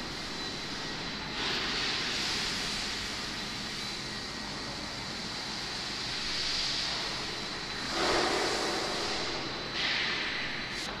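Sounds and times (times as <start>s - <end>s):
mechanical hiss with high whine: 0.0s - 11.0s.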